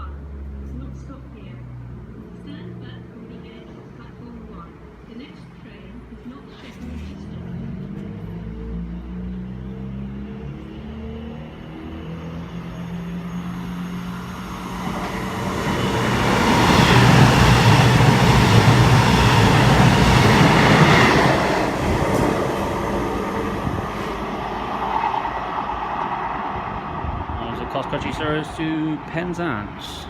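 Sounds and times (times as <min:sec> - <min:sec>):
diesel train passing at speed: 0:00.0 - 0:30.0.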